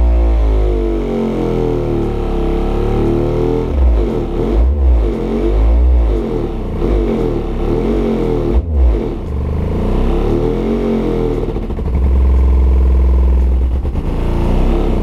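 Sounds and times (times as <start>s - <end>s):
pulsing bass notes: 0.0s - 15.0s
subwoofer deep bass tone: 0.0s - 15.0s.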